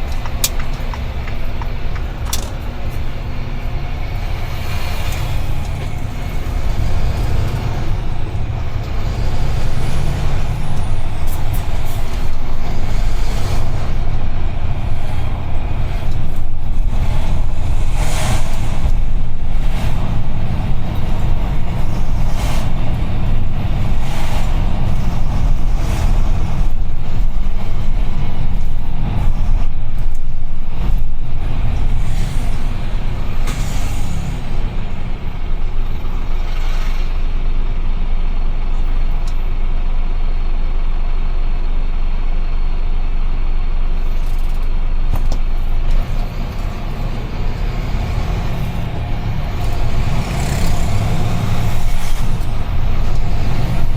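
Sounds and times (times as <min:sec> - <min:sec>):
road noise: 0:00.0 - 0:53.9
truck engine rumble: 0:00.0 - 0:53.9.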